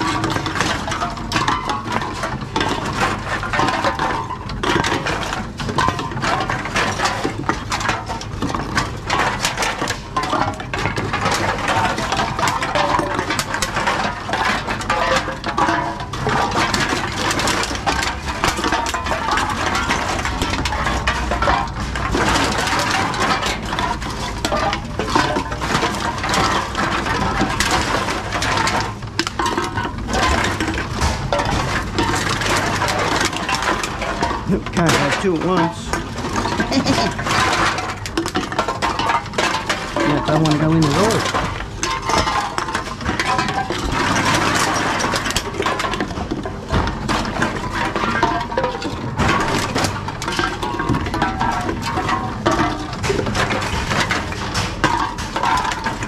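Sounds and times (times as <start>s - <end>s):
drink cans clattering: 0.0s - 56.0s.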